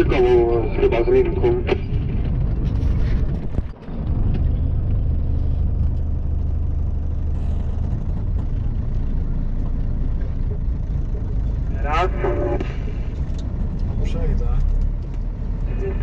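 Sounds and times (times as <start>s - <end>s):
truck engine drone: 0.0s - 16.0s.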